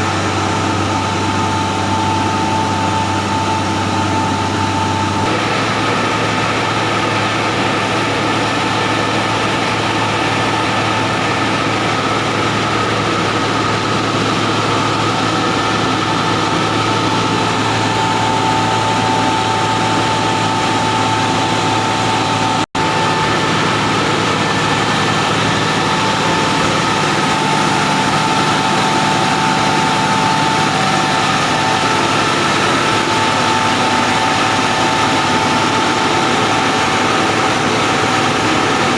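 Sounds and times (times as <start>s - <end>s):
constant machine whine: 0.0s - 38.9s
roar of blowers and burners: 0.0s - 38.9s.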